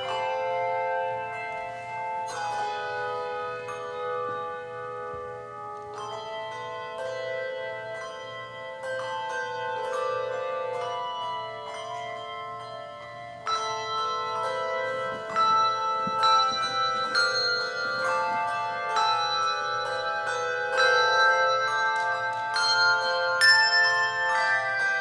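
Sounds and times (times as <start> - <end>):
handbell choir playing: 0.0 - 25.0.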